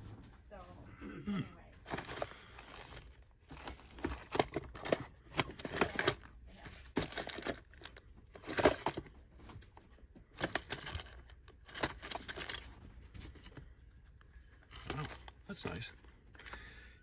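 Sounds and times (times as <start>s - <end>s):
packages clacking in drawer: 1.8s - 13.8s, 14.6s - 16.6s
plastic bags crinkling: 1.8s - 13.8s, 14.4s - 16.8s.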